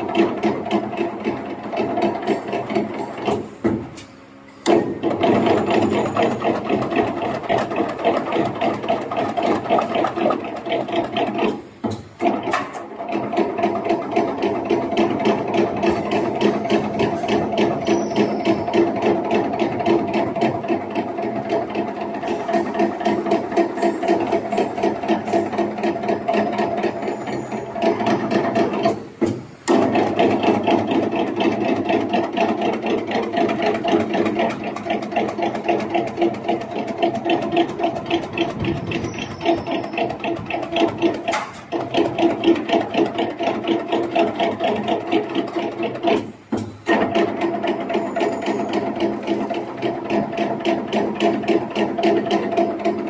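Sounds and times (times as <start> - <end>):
machine motor hum: 0.0 - 53.0
rapid mechanical clicking: 0.0 - 53.0.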